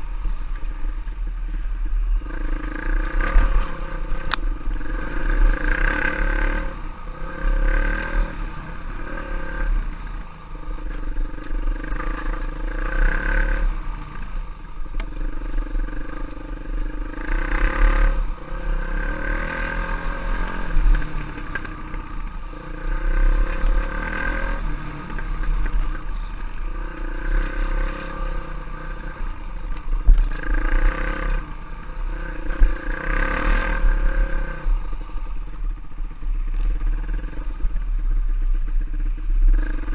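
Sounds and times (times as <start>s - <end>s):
trail bike engine revving: 0.0s - 39.9s.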